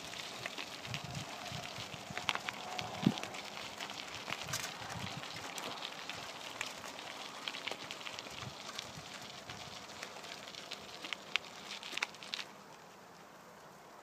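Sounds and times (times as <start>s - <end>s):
bicycle tyres on gravel: 0.0s - 14.0s.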